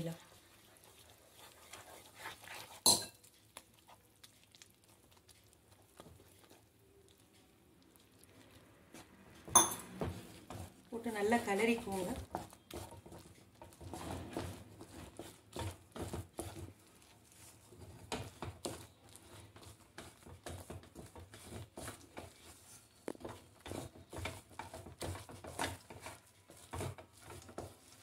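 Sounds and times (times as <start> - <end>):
wooden spatula scraping a pan: 0.0 - 4.0, 8.9 - 28.0.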